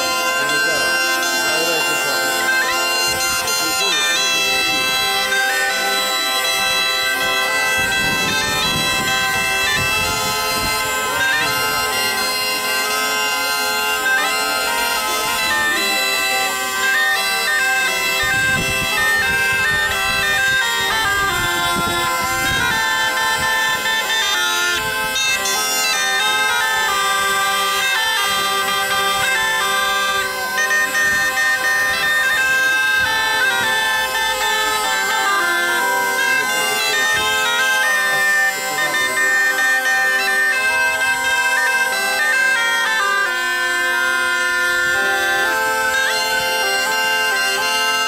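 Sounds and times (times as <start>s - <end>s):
bagpipes playing tune with drones: 0.0s - 48.0s
shawm playing melody: 0.0s - 48.0s.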